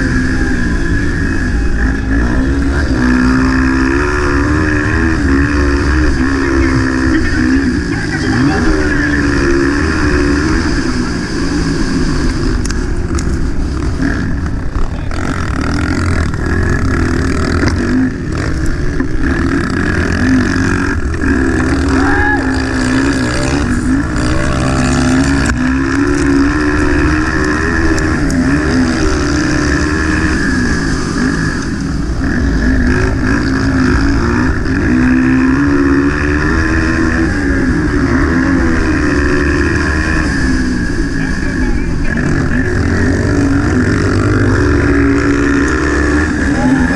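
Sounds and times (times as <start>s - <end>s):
motocross bike engine revving: 0.0s - 46.9s.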